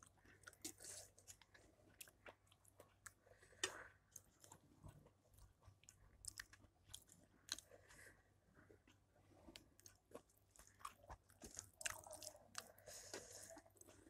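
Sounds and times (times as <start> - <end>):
faint close-up chewing: 0.0 - 14.0.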